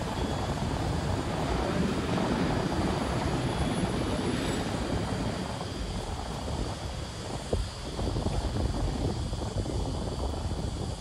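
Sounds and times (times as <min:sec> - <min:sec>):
churning propeller wash: 0:00.0 - 0:11.0.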